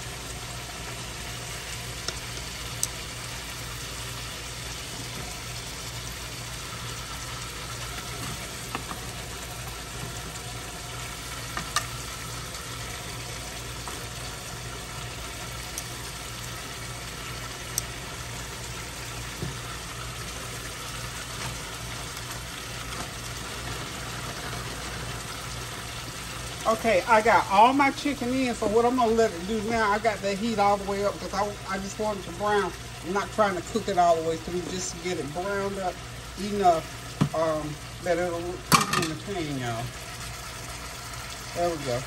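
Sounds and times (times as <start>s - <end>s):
chicken sizzling in a pan: 0.0s - 42.0s.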